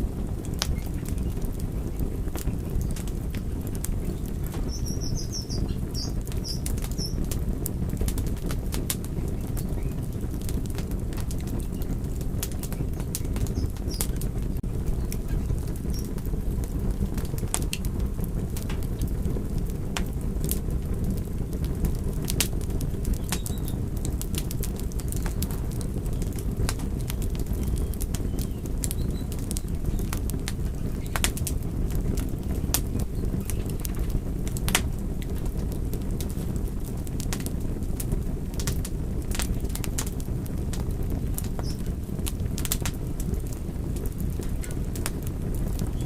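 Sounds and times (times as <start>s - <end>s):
fire crackles and pops: 0.0s - 46.0s
wood fire burning: 0.0s - 46.0s.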